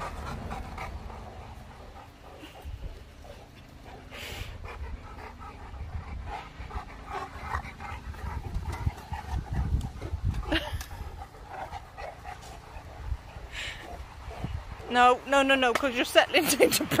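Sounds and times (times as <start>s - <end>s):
dogs panting: 0.0s - 17.0s.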